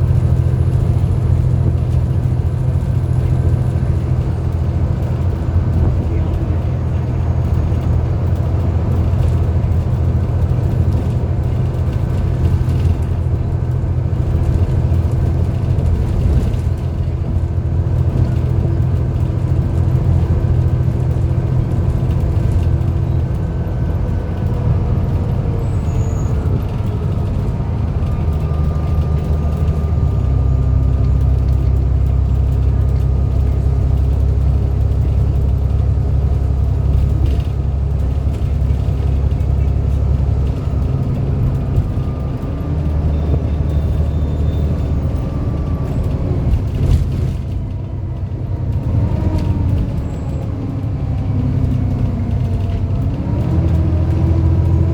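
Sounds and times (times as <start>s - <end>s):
bus engine drone: 0.0s - 54.9s.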